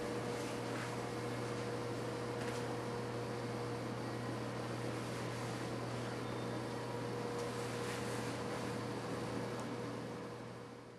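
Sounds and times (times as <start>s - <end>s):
machine hum and hiss: 0.0s - 10.9s.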